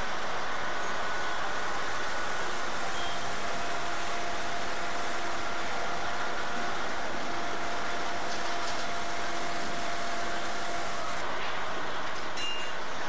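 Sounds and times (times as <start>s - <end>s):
engine running: 0.0s - 11.3s
steady even-pitched hum: 0.0s - 12.6s.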